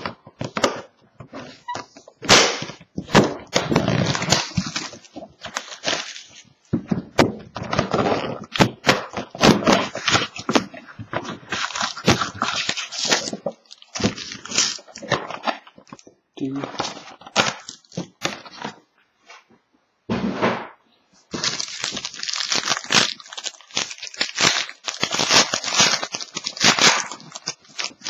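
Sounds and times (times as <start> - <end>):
plastic wrapping crinkling and tearing: 0.0 - 18.8, 21.3 - 28.0.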